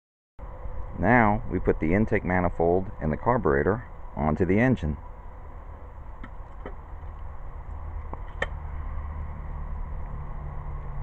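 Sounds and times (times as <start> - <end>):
low background rumble: 0.4 - 11.0.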